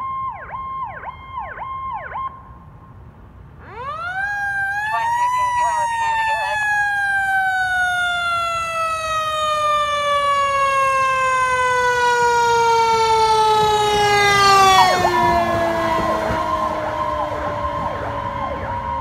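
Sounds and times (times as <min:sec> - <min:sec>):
fire engine siren wailing: 0:00.0 - 0:02.7, 0:03.6 - 0:19.0.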